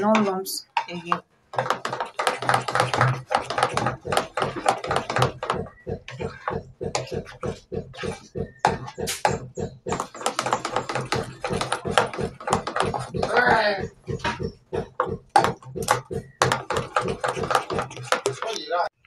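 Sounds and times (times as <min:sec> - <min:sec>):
spoon beating batter: 0:00.0 - 0:18.9.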